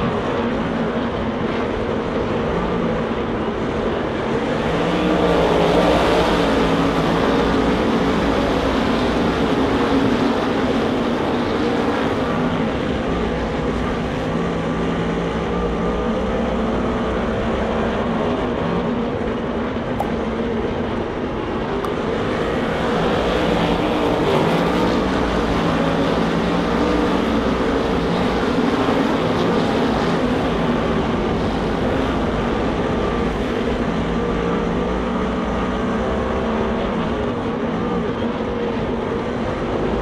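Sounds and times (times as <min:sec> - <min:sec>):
race car engines roaring: 0:00.0 - 0:40.0.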